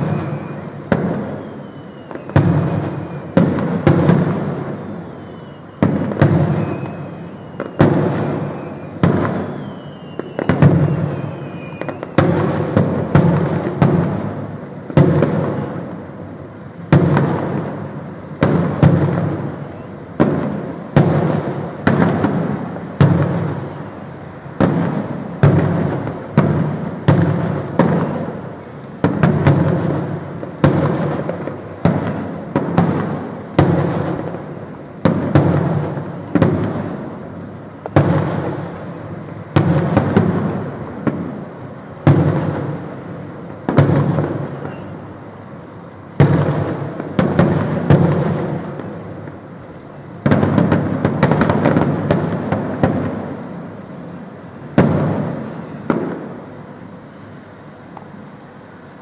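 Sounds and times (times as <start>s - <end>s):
firework shells bursting: 0.0s - 16.1s, 16.8s - 45.2s, 46.1s - 54.0s.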